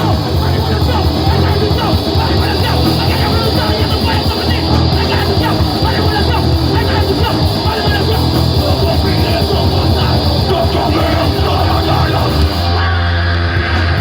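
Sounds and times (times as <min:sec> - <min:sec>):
noisy band with distorted guitar: 0:00.0 - 0:14.0.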